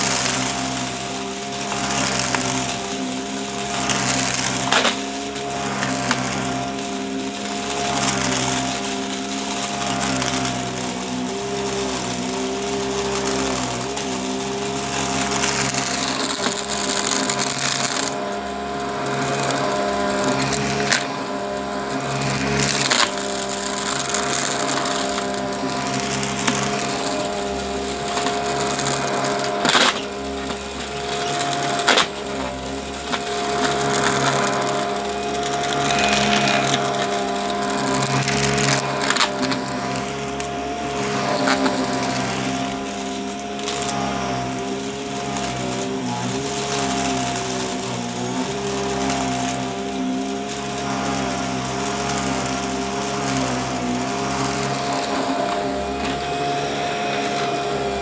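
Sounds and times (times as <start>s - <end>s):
debris crackling: 0.0s - 57.0s
vacuum cleaner running: 0.0s - 58.0s.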